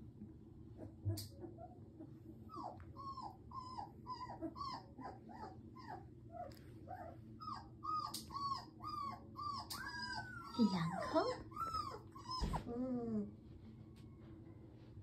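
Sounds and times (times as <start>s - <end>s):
puppy whimpering: 0.8s - 13.4s.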